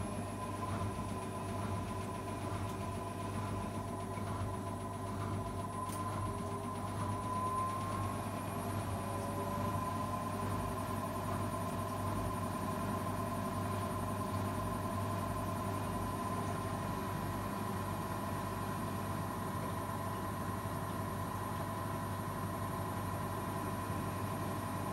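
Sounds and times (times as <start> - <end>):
washing machine spinning: 0.0 - 24.9.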